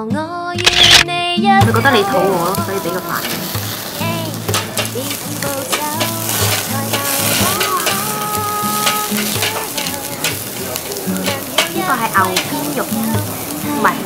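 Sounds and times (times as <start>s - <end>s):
meat sizzling on a grill: 1.6s - 14.0s.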